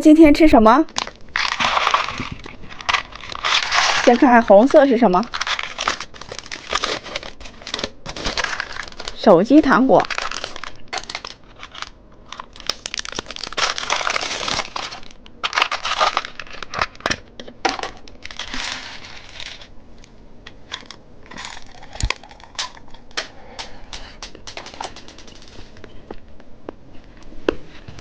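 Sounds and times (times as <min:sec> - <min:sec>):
plastic packaging crinkling: 0:00.9 - 0:19.7, 0:20.7 - 0:26.3.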